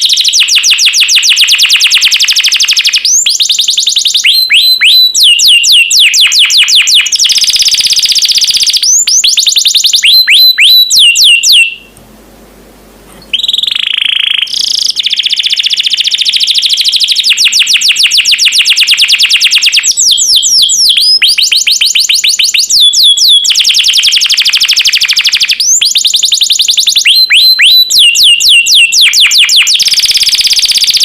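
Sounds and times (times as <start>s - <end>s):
canary singing trills: 0.0s - 12.0s, 13.2s - 31.0s.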